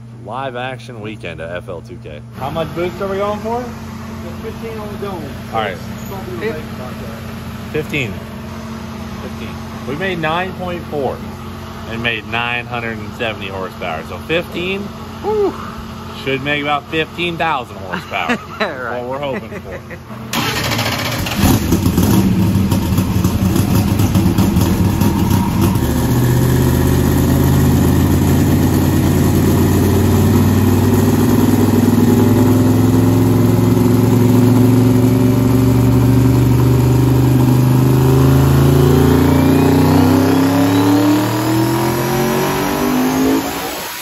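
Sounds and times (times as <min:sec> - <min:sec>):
drag car engine revving on dyno: 0:02.3 - 0:15.2, 0:20.3 - 0:44.0.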